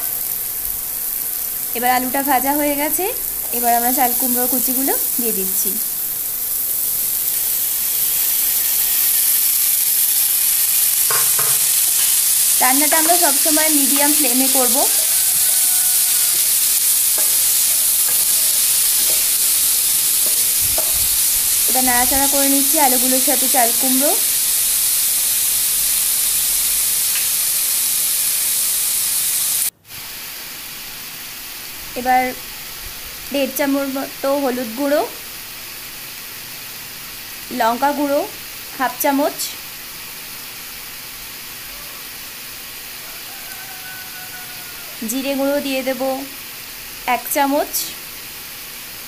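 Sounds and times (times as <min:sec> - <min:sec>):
oil sizzling in a frying pan: 0:00.0 - 0:49.0
wet vegetables hissing in oil: 0:00.0 - 0:49.0.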